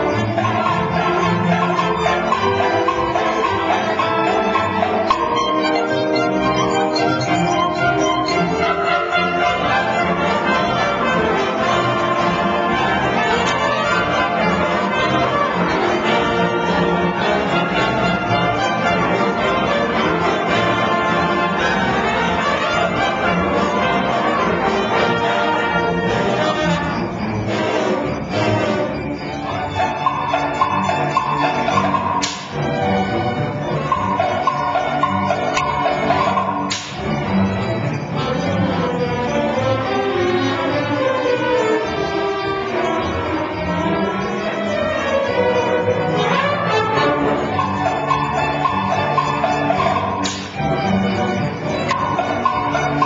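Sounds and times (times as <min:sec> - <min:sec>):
brass: 0:00.0 - 0:53.0
orchestra playing held notes: 0:00.0 - 0:53.0
strings: 0:00.0 - 0:53.0.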